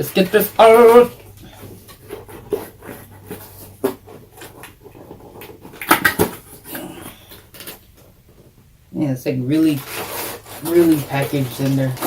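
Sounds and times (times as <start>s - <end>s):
plastic packaging rustling: 0.0s - 8.8s, 9.6s - 12.0s.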